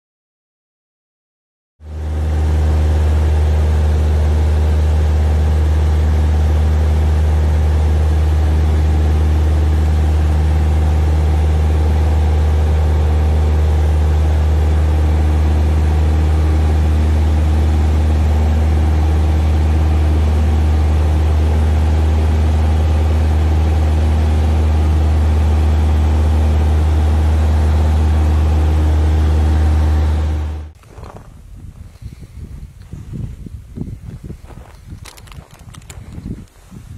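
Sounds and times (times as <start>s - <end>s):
low engine drone: 1.8s - 32.8s, 33.6s - 36.5s.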